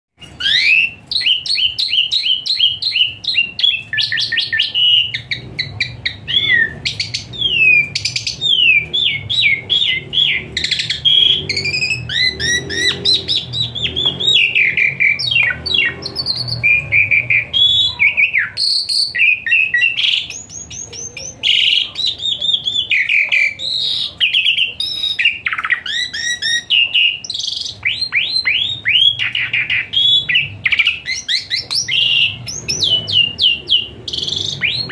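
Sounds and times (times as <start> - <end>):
starling singing: 0.2 - 34.9.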